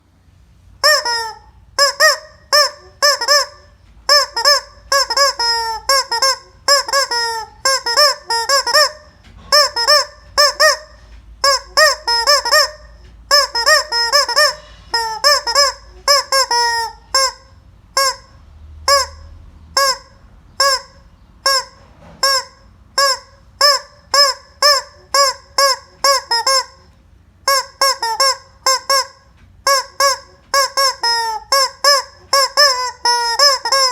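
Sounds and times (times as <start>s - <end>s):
squawking toy chicken: 0.8s - 33.9s.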